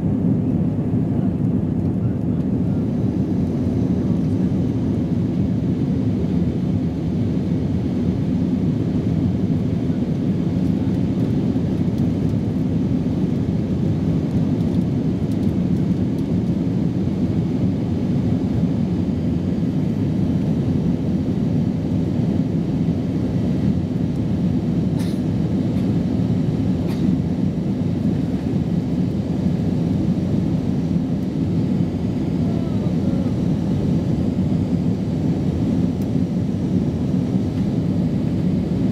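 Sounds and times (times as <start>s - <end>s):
jet engine and airflow roar: 0.0s - 38.9s.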